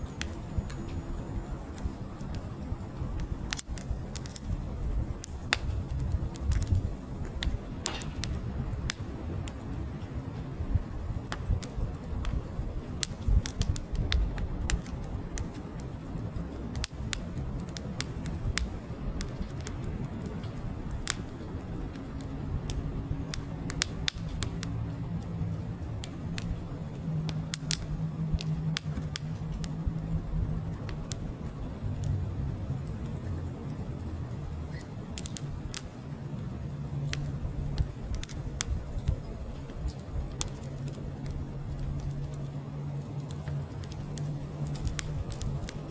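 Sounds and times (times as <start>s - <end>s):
low rush of flame: 0.0s - 45.9s
wood fire crackling and popping: 0.0s - 45.9s.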